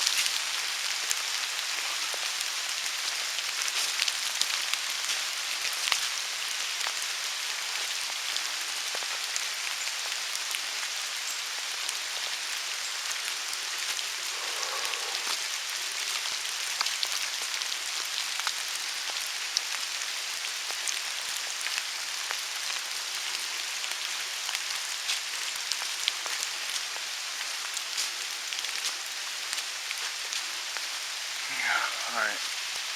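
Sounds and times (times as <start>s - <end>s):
rain falling: 0.0s - 32.9s.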